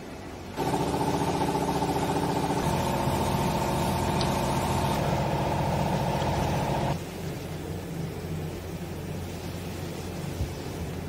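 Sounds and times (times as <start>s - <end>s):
electric motor and pump humming: 0.0s - 11.0s.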